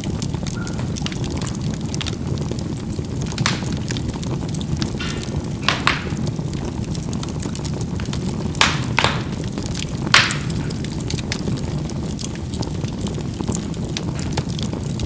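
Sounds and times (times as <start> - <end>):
charcoal fire rumbling: 0.0 - 15.0
fire crackling and popping: 0.0 - 15.0.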